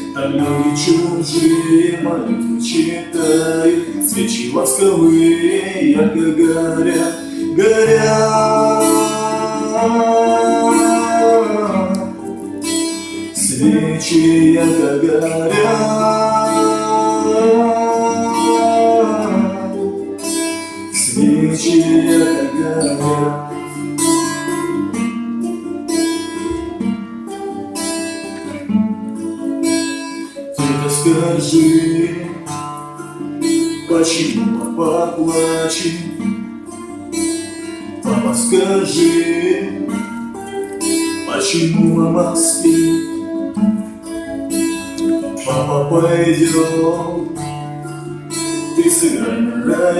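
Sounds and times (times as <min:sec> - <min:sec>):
slow song with acoustic guitar: 0:00.0 - 0:49.9.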